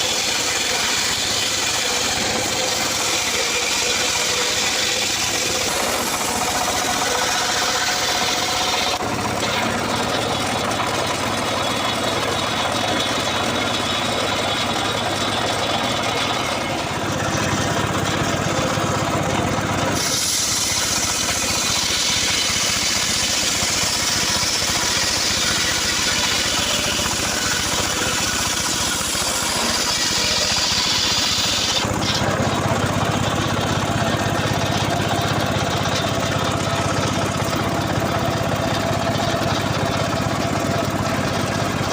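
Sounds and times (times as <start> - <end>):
saw engine running: 0.0 - 41.9
saw hissing through wood: 0.0 - 41.9.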